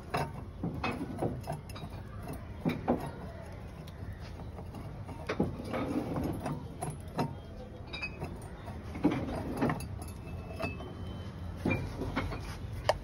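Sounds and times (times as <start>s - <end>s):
glass bottle clinking against metal: 0.0s - 13.0s.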